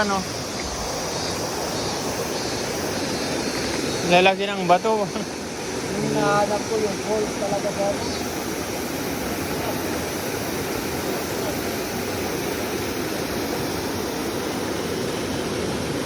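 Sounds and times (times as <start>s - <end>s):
water rushing over rocks: 0.0s - 16.0s.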